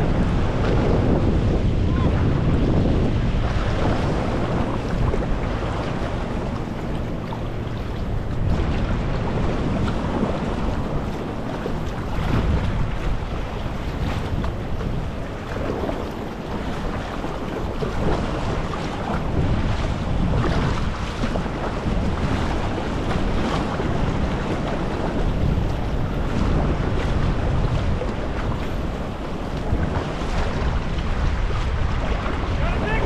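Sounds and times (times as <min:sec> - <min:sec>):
waves splashing around kayak: 0:00.0 - 0:33.0
wind buffeting microphone: 0:00.0 - 0:33.0.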